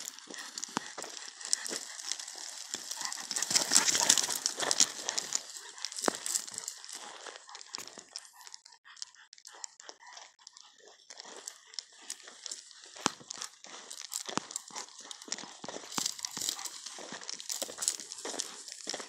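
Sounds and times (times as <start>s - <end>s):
footsteps through grass and brush: 0.0s - 8.0s, 11.5s - 19.0s.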